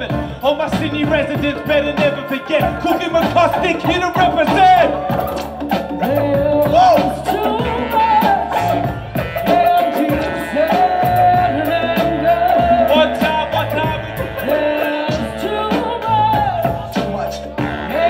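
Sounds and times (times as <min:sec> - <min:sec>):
drum kit: 0:00.0 - 0:18.0
stepping bass line: 0:00.0 - 0:18.0
wavering melodic lead line: 0:00.0 - 0:18.0.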